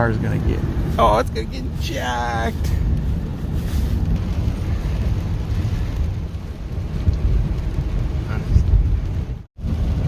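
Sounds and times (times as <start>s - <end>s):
rain: 0.0s - 10.0s.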